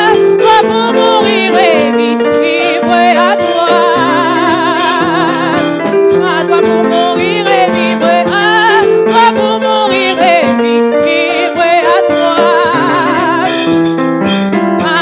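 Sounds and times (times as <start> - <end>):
person singing with vibrato: 0.0 - 14.1, 14.8 - 15.0
held keyboard chords: 0.0 - 15.0.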